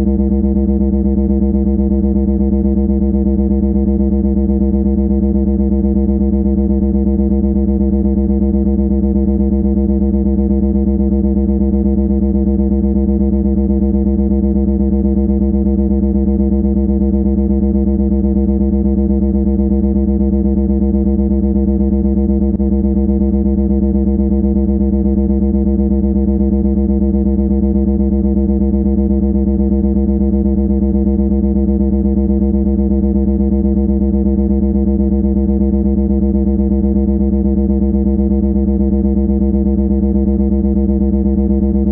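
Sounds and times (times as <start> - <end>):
low buzzing drone: 0.0 - 41.9.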